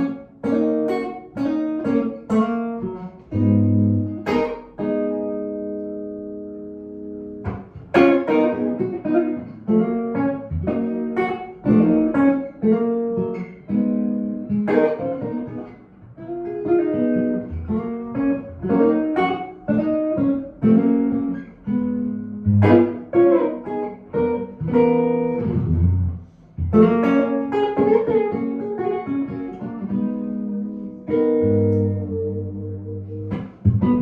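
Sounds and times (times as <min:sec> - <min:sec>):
electric guitar playing: 0:00.0 - 0:34.0.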